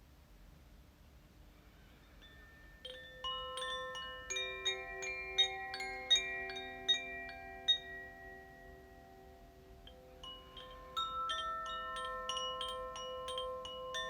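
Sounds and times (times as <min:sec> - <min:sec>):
wind chimes ringing: 0:02.1 - 0:14.0.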